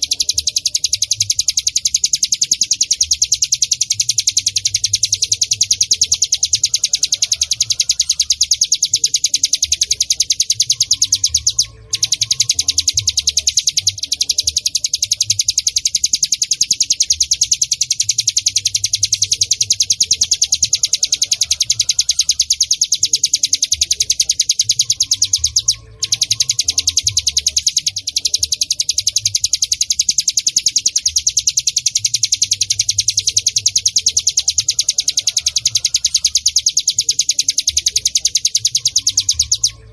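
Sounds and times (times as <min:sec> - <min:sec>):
bird high-pitched trill: 0:00.0 - 0:39.9.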